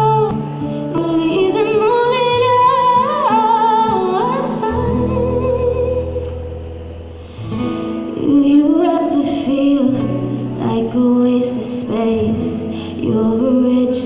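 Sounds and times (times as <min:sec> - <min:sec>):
woman singing: 0:00.0 - 0:06.6, 0:08.0 - 0:14.0.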